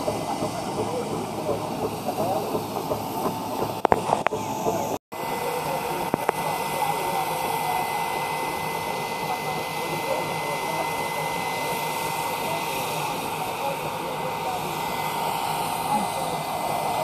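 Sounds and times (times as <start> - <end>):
steam hissing from locomotive: 0.0 - 17.0.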